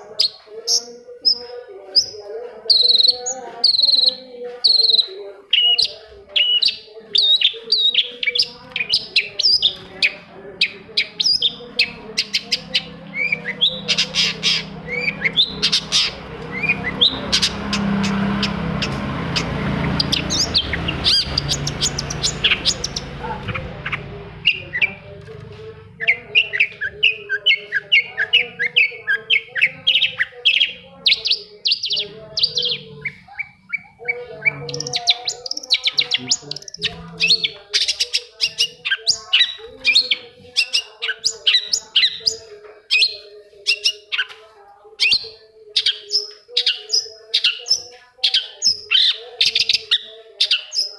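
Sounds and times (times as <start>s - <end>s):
bird singing chirps: 0.0s - 50.9s.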